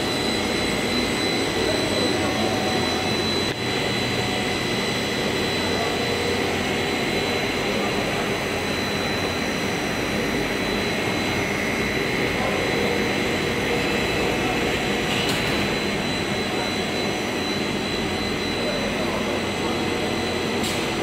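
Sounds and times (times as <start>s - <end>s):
extrusion machine whining: 0.0s - 21.0s.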